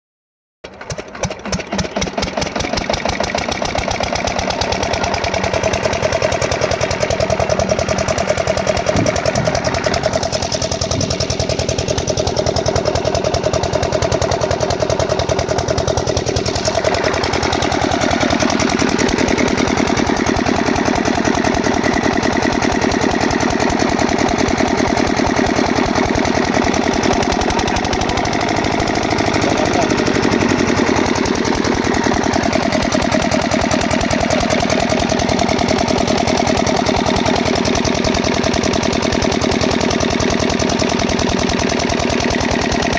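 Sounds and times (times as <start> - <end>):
engine thudding: 0.6 - 42.9.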